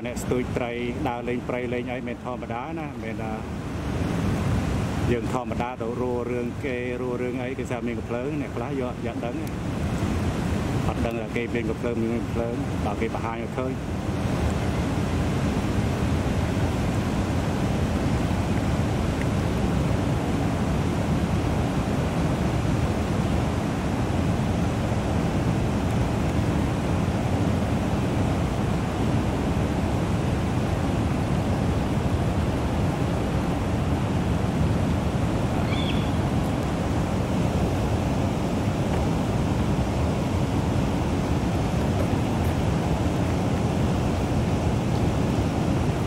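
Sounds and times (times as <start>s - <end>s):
rushing water: 0.0s - 46.0s.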